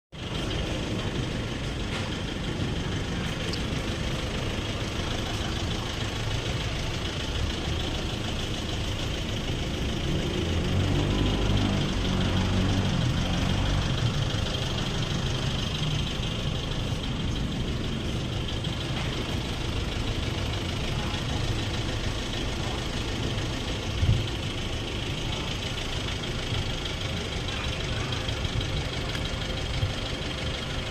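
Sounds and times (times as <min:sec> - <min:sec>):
car engine idling: 0:00.1 - 0:30.9.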